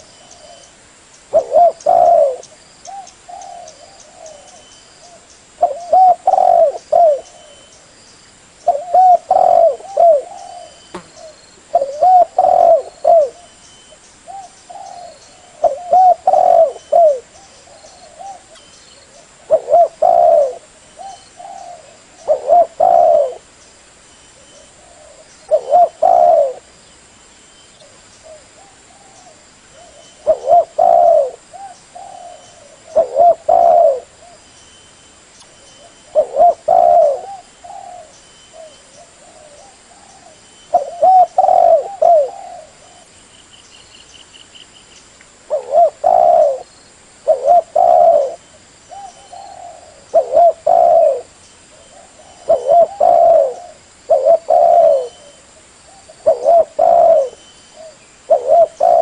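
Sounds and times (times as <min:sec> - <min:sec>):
dove cooing: 0:01.3 - 0:07.7, 0:08.6 - 0:13.5, 0:14.3 - 0:23.5, 0:24.4 - 0:26.7, 0:27.8 - 0:34.4, 0:35.6 - 0:43.1, 0:45.5 - 0:59.0.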